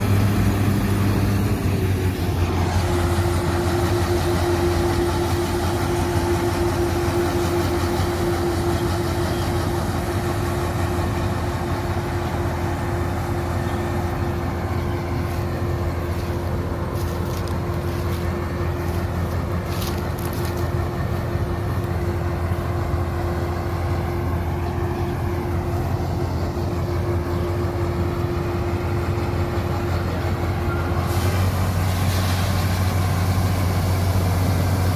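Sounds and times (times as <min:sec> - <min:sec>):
combine harvester engine drone: 0:00.0 - 0:34.9
steady whine: 0:00.0 - 0:34.9.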